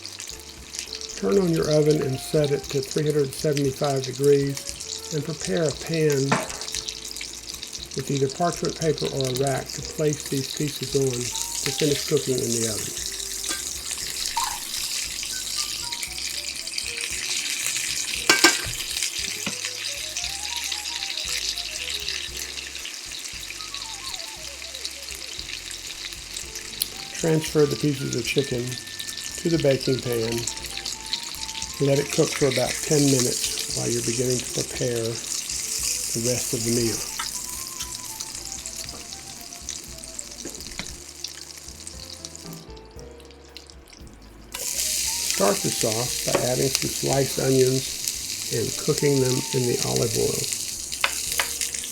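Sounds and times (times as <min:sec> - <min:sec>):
chicken frying in oil: 0:00.0 - 0:51.9.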